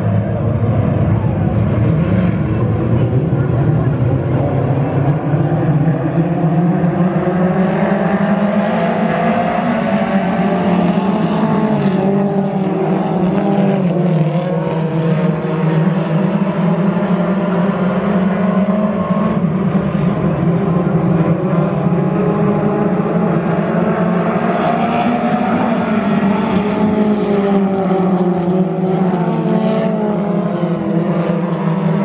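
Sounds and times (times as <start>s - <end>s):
race car engines running hard: 0.0s - 32.0s.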